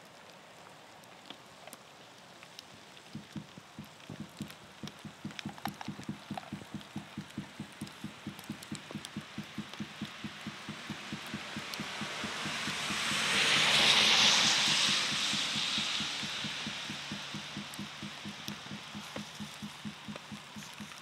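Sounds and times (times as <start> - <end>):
tyre hiss on wet road: 0.0 - 21.0
low pulsing: 3.2 - 21.0.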